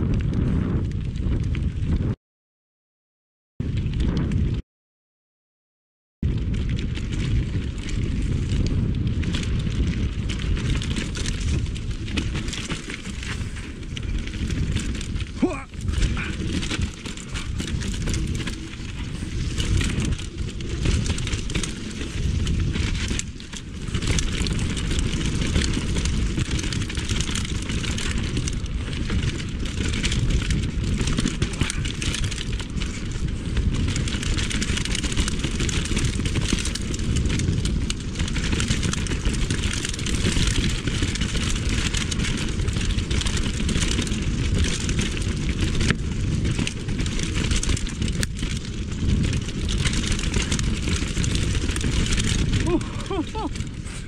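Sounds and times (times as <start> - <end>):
wind rush on microphone: 0.0 - 2.2, 3.6 - 4.6, 6.2 - 54.0
bike clattering and rattling: 6.3 - 54.0.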